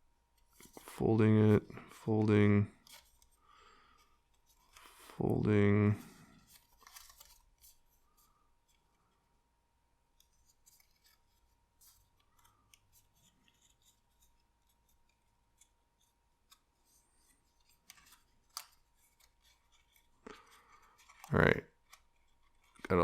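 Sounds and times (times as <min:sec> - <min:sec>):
card stock being folded: 0:00.4 - 0:01.0, 0:01.8 - 0:05.2, 0:05.9 - 0:09.1, 0:10.2 - 0:23.0.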